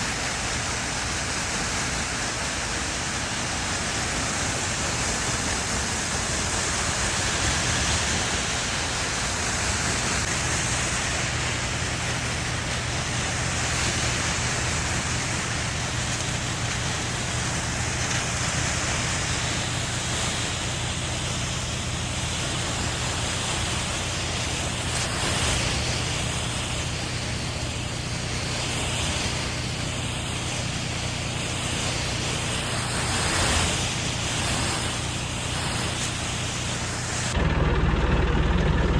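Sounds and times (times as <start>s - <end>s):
rushing hiss of spray: 0.0s - 37.4s
engine hum: 0.0s - 38.9s.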